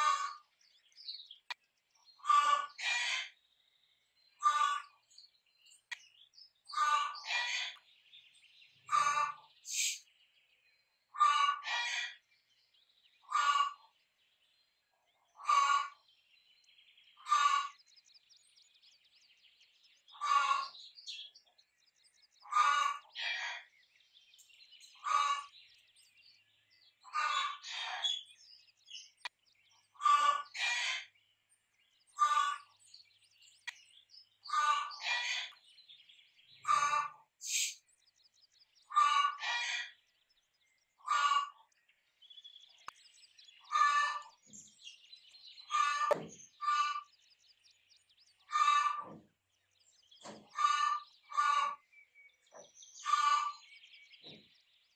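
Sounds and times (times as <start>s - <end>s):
faint small birds chirping: 0.0s - 54.9s.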